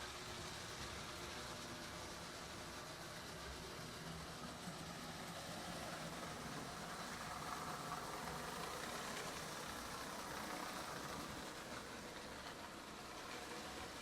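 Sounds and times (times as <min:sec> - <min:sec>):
toy train motor whir: 0:00.0 - 0:14.0.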